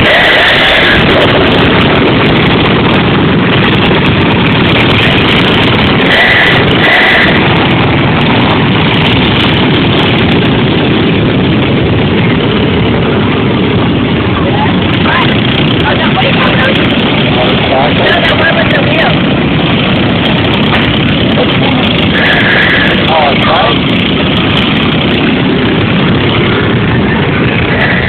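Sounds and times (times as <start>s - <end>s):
vehicle engines running: 0.0s - 28.0s.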